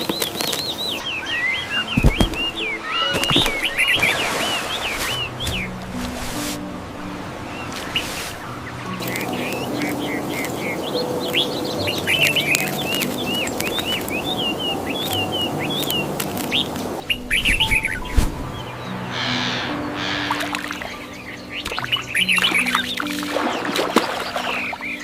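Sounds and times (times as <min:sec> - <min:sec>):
birds chirping: 0:00.0 - 0:25.0
soft music with low notes: 0:00.0 - 0:25.0.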